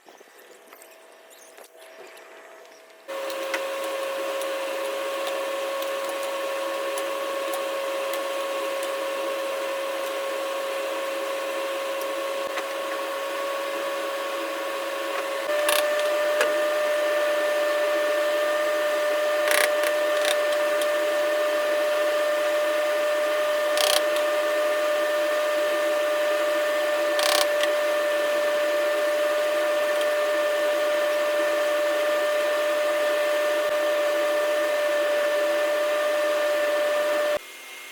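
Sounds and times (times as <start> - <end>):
power tool motor whining: 3.1 - 37.4.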